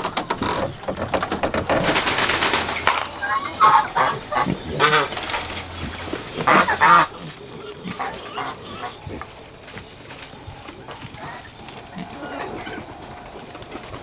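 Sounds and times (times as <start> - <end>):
farm birds honking: 0.0 - 14.0.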